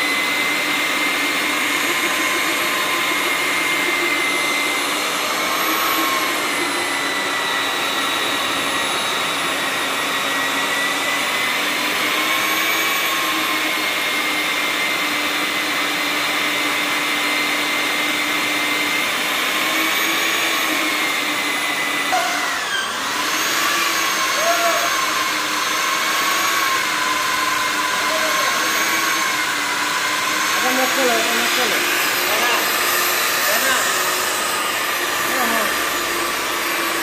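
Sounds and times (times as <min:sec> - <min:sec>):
core drill boring into concrete: 0:00.0 - 0:37.0.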